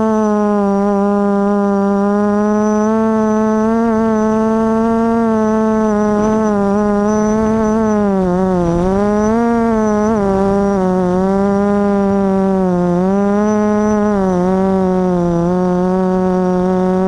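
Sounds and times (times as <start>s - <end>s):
quadcopter propellers buzzing: 0.0s - 17.0s.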